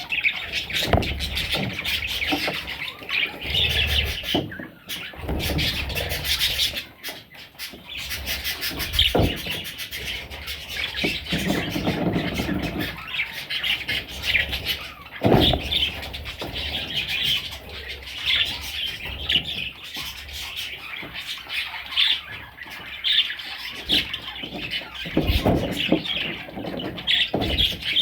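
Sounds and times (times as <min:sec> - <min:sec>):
budgerigar chicks squawking and chirping: 0:00.0 - 0:28.0.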